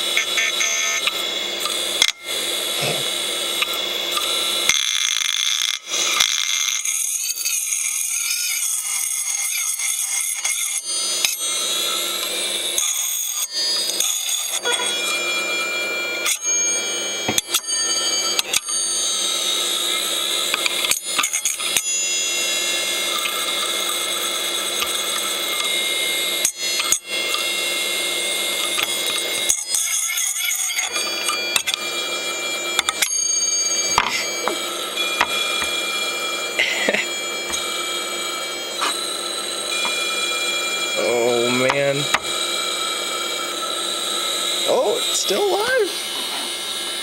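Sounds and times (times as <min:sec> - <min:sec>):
hard drive high-pitched whine: 0:00.0 - 0:47.0.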